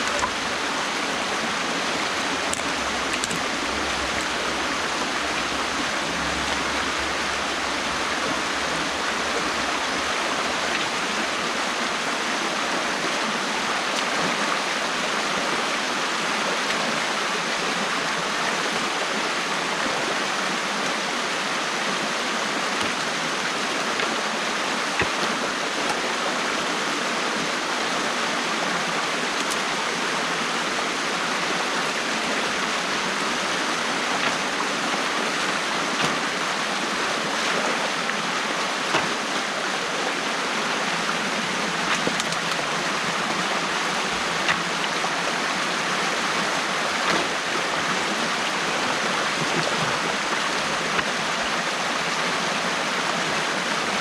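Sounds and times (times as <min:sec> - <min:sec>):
water rushing through a gap: 0:00.0 - 0:54.0.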